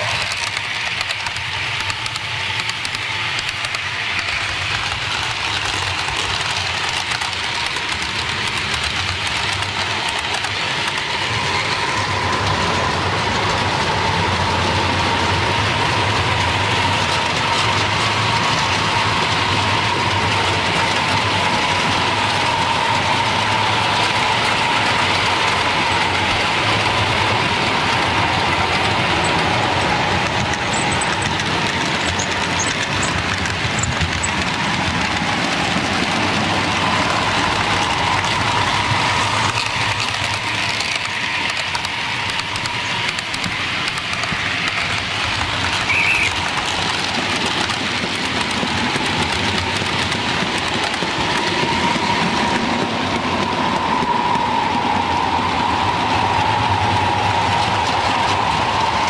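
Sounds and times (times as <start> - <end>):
wheels rumbling on track: 0.0 - 59.0.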